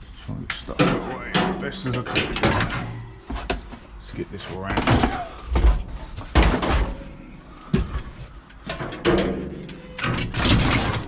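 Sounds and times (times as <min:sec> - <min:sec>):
scrap metal clattering: 0:00.6 - 0:11.0.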